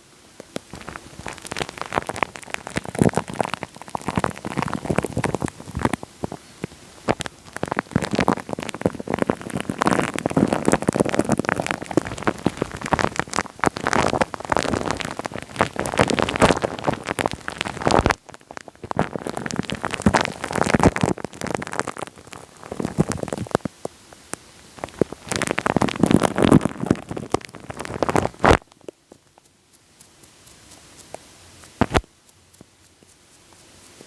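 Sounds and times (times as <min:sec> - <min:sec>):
wet sticky crackling on microphone: 0:00.4 - 0:34.0.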